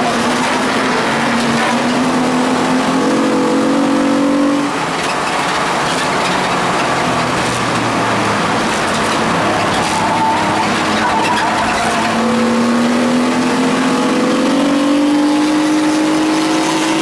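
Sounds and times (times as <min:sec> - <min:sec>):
car engine accelerating: 0:00.0 - 0:17.0
road and wind noise: 0:00.0 - 0:17.0.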